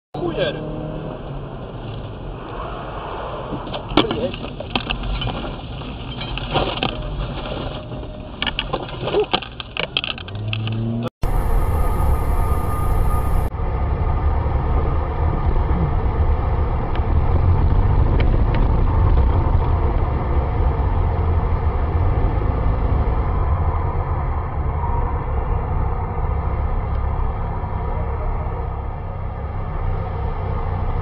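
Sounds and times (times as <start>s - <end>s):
car engine and tyre rumble: 0.2s - 31.0s.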